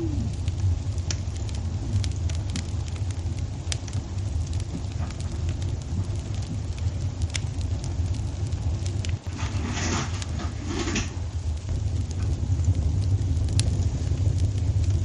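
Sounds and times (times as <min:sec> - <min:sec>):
fire pops and snaps: 0:00.0 - 0:15.0
low rumble: 0:00.0 - 0:15.0
wood fire crackling: 0:00.0 - 0:15.0.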